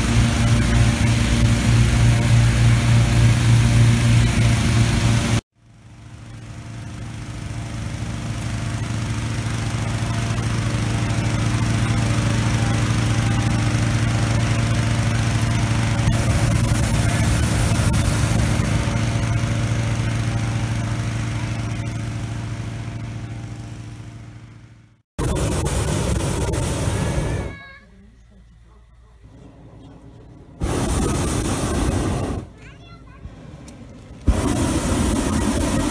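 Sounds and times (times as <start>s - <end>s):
inflator fan engine hum: 0.0s - 24.6s, 25.2s - 35.9s
propane burner roaring: 0.0s - 27.6s, 29.1s - 35.9s.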